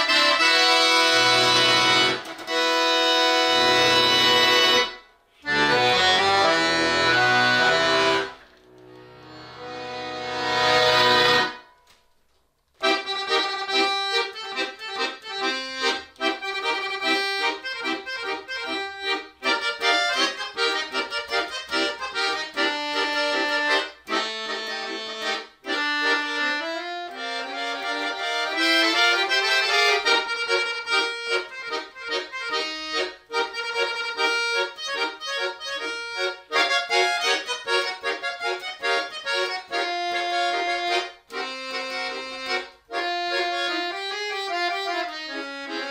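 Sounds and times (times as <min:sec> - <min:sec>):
button accordion playing chords: 0:00.0 - 0:11.8, 0:12.8 - 0:45.9.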